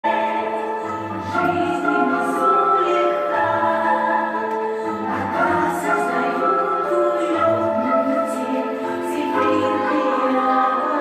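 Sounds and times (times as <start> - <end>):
voices singing chords: 0.0 - 11.0.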